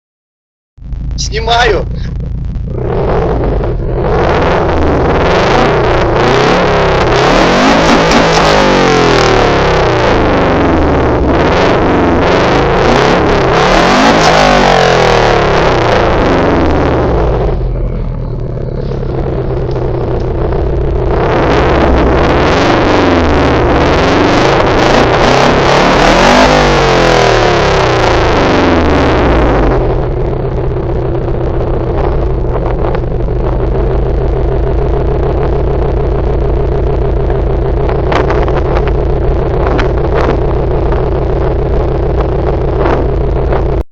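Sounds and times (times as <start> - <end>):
car engine idling: 0.8 - 43.9
car engine revving: 0.8 - 43.9.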